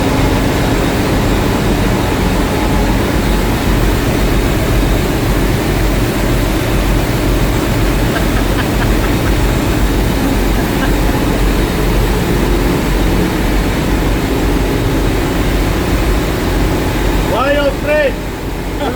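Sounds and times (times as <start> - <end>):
faint steady tonal hum: 0.0 - 15.5
engine room machinery din: 0.0 - 18.9.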